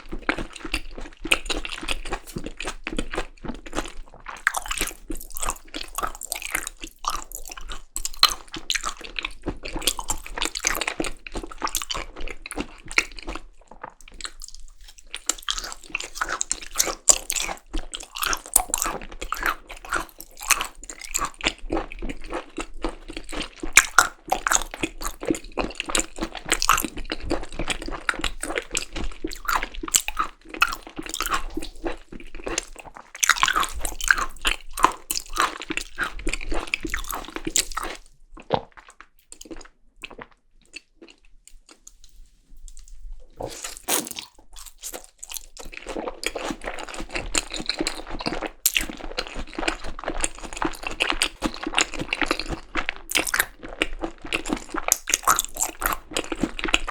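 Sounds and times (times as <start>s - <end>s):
close chewing and biting: 0.0s - 56.9s.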